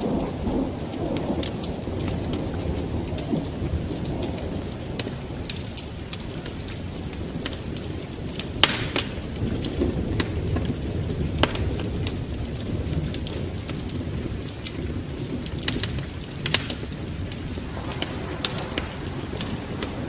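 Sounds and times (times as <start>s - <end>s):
rain: 0.0s - 20.0s
wood fire crackling in a fireplace: 0.0s - 20.0s.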